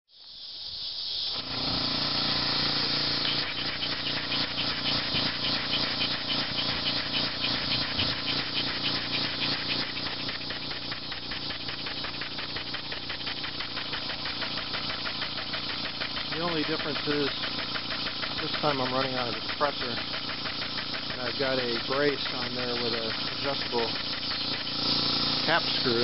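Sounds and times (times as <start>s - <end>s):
cicadas droning: 0.1s - 26.0s
steam engine exhaust puffing: 0.8s - 26.0s.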